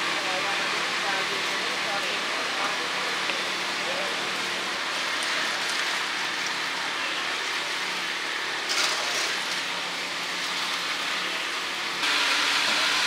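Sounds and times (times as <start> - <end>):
oil sizzling in deep fryer: 0.0 - 13.0.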